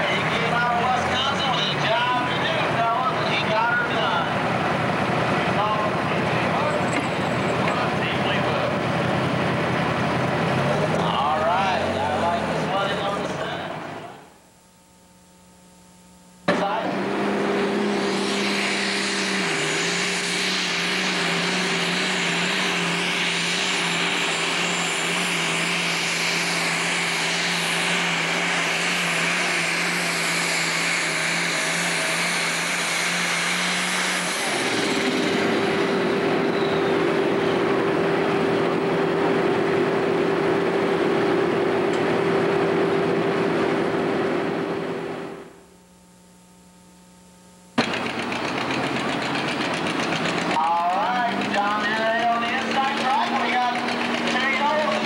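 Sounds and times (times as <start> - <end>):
tractor diesel engine running flat out: 0.0 - 14.3, 16.6 - 45.6, 47.8 - 55.0
high turbo whine: 0.0 - 55.0.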